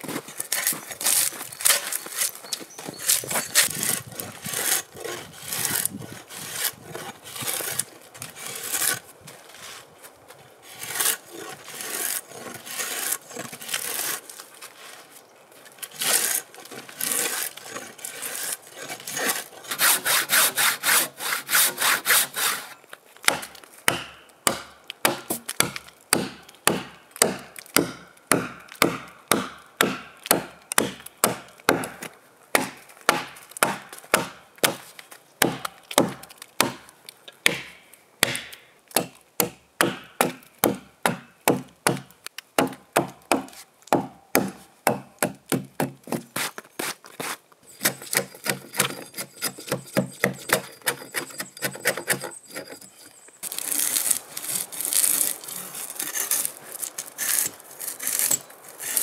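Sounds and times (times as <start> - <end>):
hand tool cutting log: 0.0 - 9.8, 10.6 - 14.4, 15.8 - 36.8, 37.4 - 59.0.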